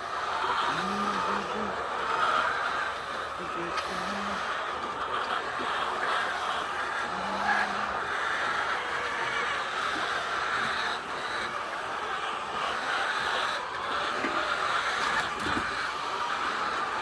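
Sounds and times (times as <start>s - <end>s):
hens clucking and squawking: 0.0s - 17.0s.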